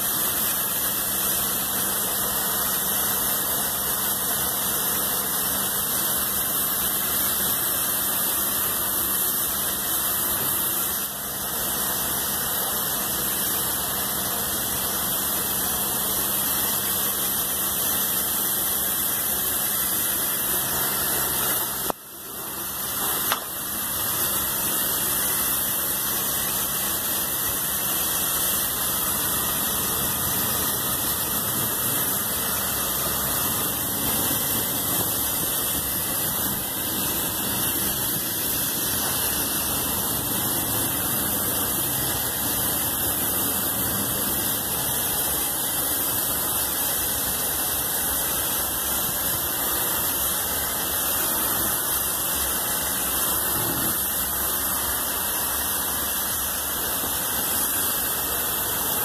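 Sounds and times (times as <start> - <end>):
pressure washer water jet hissing: 0.0 - 59.0
steady machine hum: 0.0 - 59.0.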